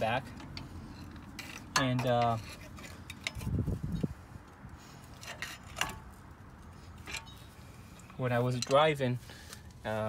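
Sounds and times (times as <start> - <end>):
metal scraping and rubbing: 0.0 - 4.2, 5.0 - 9.0.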